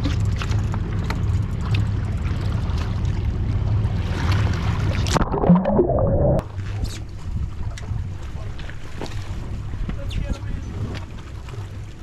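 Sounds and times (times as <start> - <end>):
water slapping against hull: 0.0 - 5.7, 6.4 - 12.0
boat engine rumbling: 0.0 - 12.0.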